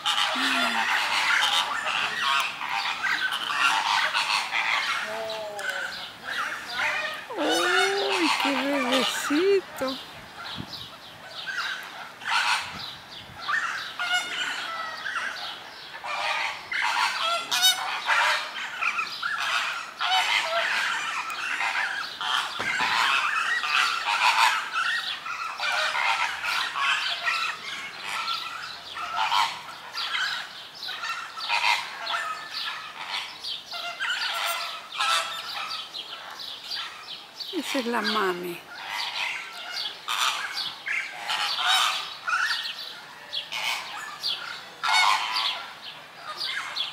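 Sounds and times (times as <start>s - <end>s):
flamingos honking: 0.0s - 10.6s, 11.4s - 36.9s, 37.5s - 46.8s.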